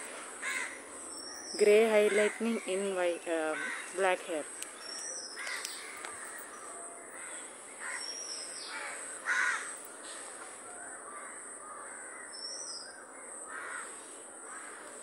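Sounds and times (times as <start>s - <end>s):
harsh bird calls: 0.0s - 15.0s.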